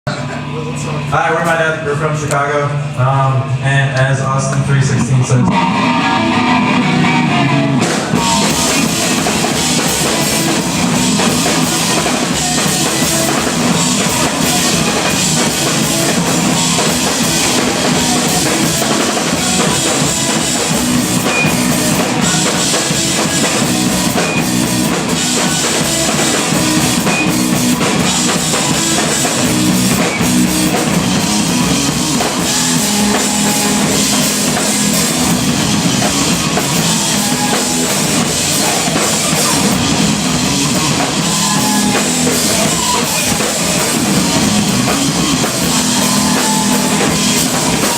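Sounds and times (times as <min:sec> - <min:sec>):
electric guitar: 0:00.1 - 0:47.9
rock band playing live: 0:00.1 - 0:47.9
drum kit: 0:04.2 - 0:47.9.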